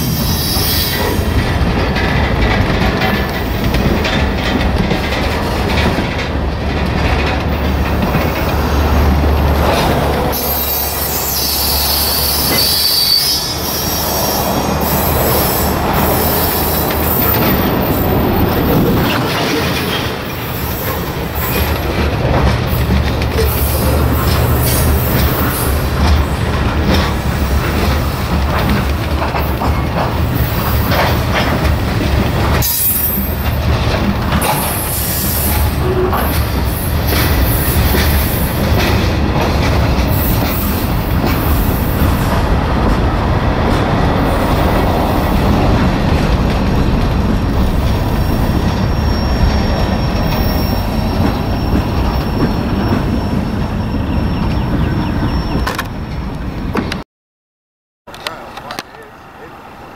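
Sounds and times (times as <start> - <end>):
train wheels rumbling on rails: 0.0 - 57.0, 58.1 - 59.9
wheels clicking over rail joints: 0.9 - 10.4, 14.5 - 53.2, 58.1 - 59.2.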